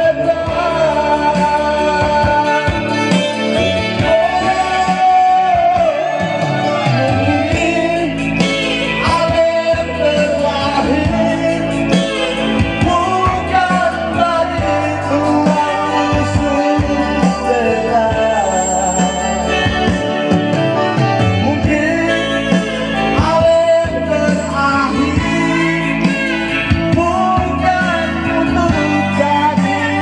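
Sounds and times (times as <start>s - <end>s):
instrumental accompaniment: 0.0s - 30.0s
man singing into microphone: 0.0s - 30.0s.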